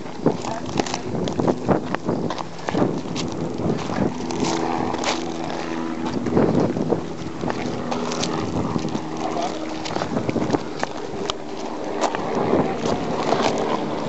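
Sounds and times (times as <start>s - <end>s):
low droning hum: 0.0s - 14.0s
footsteps crunching over rock: 0.2s - 14.0s.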